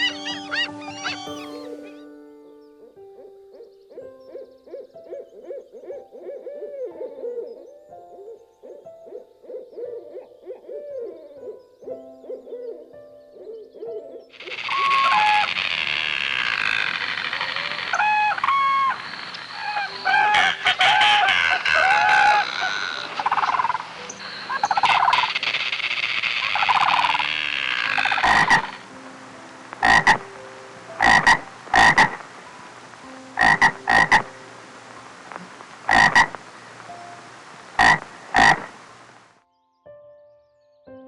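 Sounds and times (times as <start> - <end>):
frogs croaking: 0.0 - 2.0, 2.8 - 39.3.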